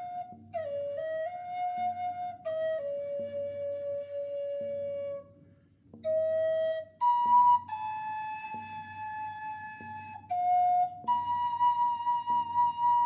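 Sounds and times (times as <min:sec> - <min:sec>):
flute playing slow melody: 0:00.0 - 0:05.3, 0:06.0 - 0:13.0.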